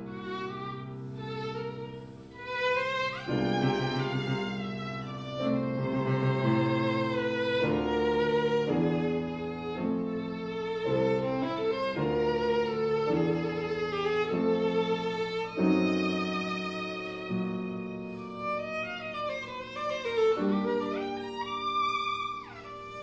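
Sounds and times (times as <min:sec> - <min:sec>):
piano chords: 0:00.0 - 0:23.0
violin melody: 0:00.0 - 0:23.0.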